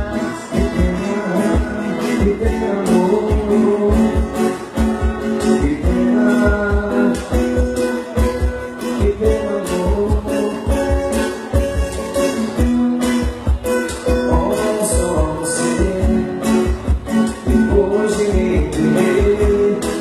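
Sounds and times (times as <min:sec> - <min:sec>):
bass beat: 0:00.0 - 0:20.0
guitar strumming: 0:00.0 - 0:20.0
live band playing: 0:00.0 - 0:20.0.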